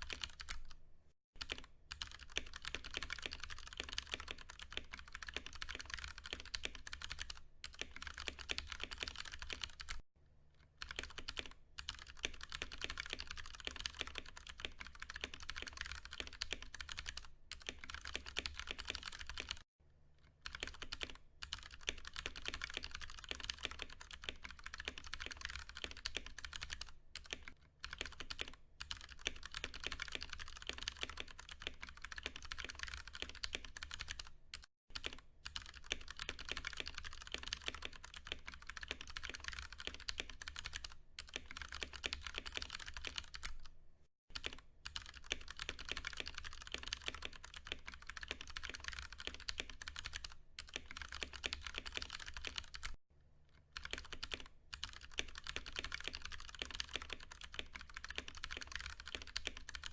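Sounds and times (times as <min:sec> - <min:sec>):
fast mechanical keyboard typing: 0:00.0 - 0:00.8, 0:01.4 - 0:10.0, 0:10.8 - 0:19.6, 0:20.4 - 0:43.7, 0:44.3 - 0:53.0, 0:53.7 - 0:59.9.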